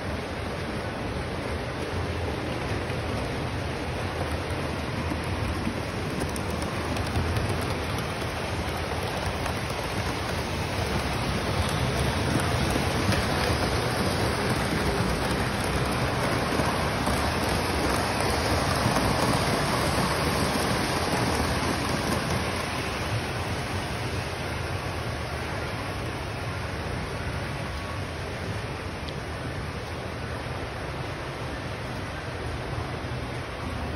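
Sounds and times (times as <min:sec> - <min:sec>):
model trains rumbling and whirring: 0:00.0 - 0:33.9.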